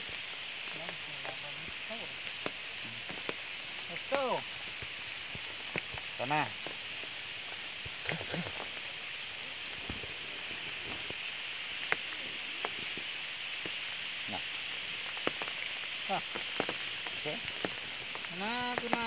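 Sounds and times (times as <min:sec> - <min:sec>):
rain on wet ground and stone: 0:00.0 - 0:19.0.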